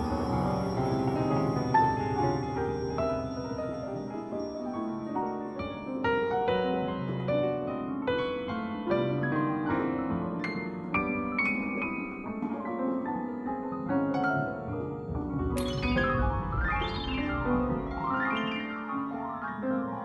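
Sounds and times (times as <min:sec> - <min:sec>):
piano keyboard music: 0:00.0 - 0:20.0.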